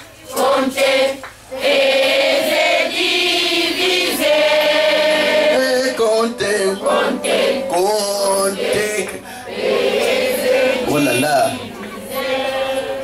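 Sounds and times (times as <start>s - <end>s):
church choir singing: 0.3s - 13.0s.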